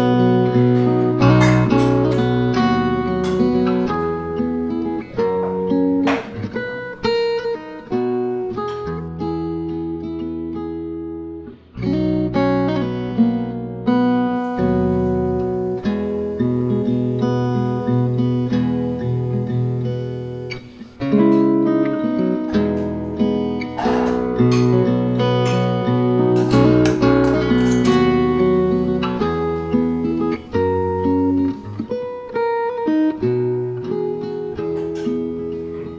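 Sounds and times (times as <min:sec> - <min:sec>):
acoustic guitar: 0:00.0 - 0:35.9.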